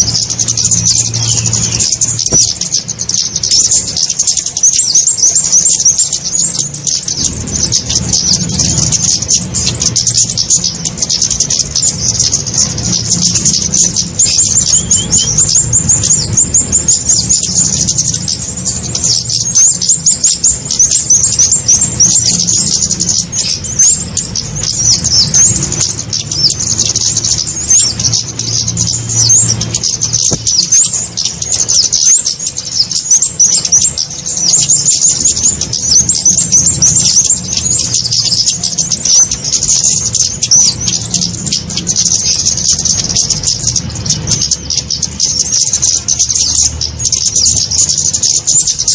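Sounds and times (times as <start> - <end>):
high-pitched bird chirps and trills: 0.0 - 48.9
steady low hum: 0.0 - 48.9.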